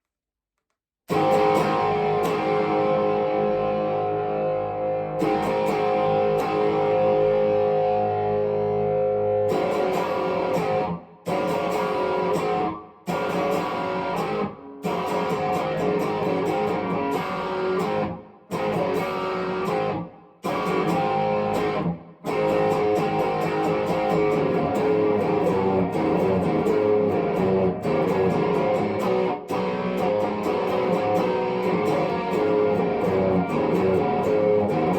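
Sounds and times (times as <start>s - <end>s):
electric guitar chords: 1.1s - 34.9s.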